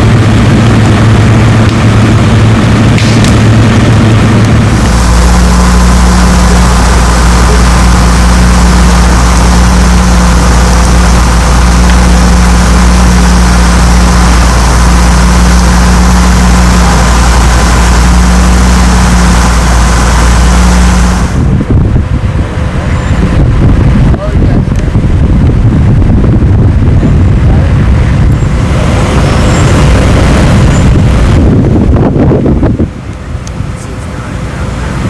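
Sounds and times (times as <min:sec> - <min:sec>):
gusty noise: 0:00.0 - 0:35.0
large engine humming: 0:00.0 - 0:35.0.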